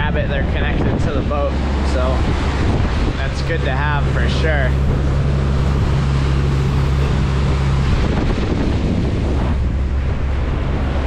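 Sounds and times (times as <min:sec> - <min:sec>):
diesel engine droning: 0:00.0 - 0:11.0
wake and bow wave rushing: 0:00.0 - 0:11.0
wind buffeting microphone: 0:00.0 - 0:11.0.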